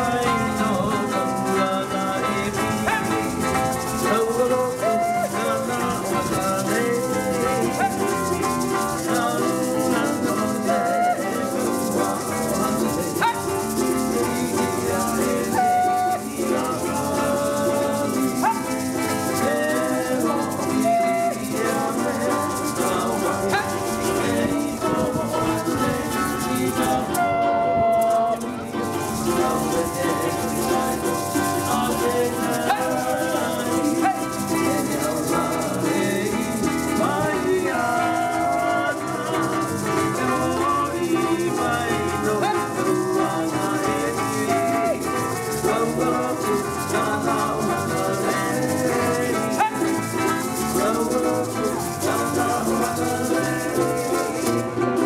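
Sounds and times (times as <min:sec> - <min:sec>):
plucked strings with sliding melody: 0:00.0 - 0:55.0
steady shaker rhythm: 0:00.0 - 0:55.0.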